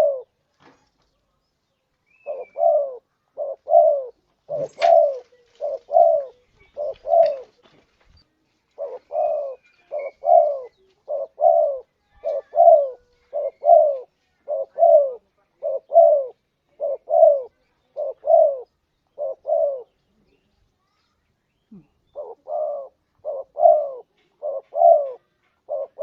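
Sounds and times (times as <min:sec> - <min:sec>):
dove cooing: 0:00.0 - 0:00.4, 0:02.1 - 0:07.8, 0:08.7 - 0:20.3, 0:21.7 - 0:26.0.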